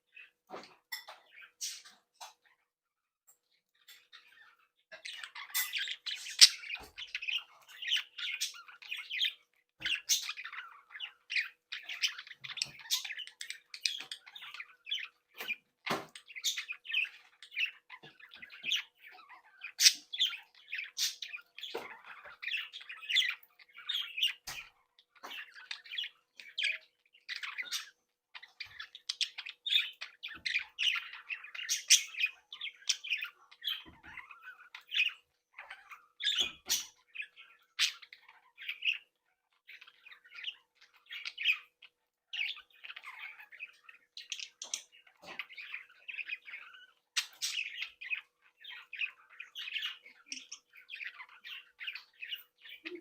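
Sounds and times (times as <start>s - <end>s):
budgerigars chirping and squawking: 0.0s - 2.7s, 3.4s - 53.0s.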